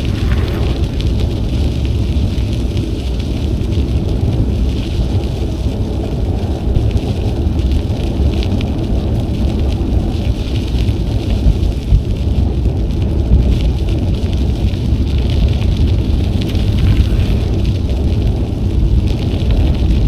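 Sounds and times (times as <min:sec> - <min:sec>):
bicycle tyres rolling on trail: 0:00.0 - 0:20.0
wind buffeting microphone: 0:00.0 - 0:20.0.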